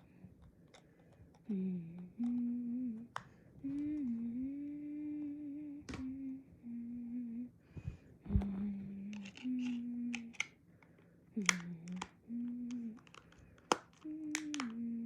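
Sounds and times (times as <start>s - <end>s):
person humming: 1.4s - 7.6s, 8.2s - 10.5s, 11.4s - 15.0s.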